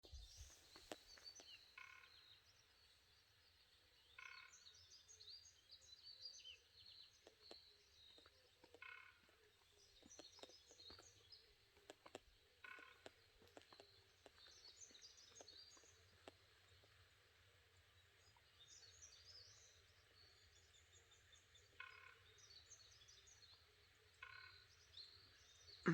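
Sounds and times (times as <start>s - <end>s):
faint songbirds chirping: 0.0s - 25.9s.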